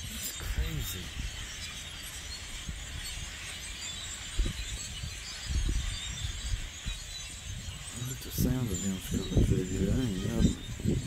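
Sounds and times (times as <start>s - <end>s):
flock of blackbirds chattering: 0.0s - 11.0s.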